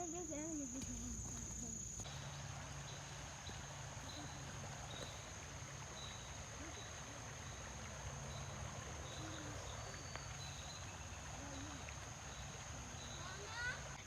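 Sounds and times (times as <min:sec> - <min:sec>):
insect chirps: 0:00.0 - 0:14.0
insects trilling: 0:00.0 - 0:14.0.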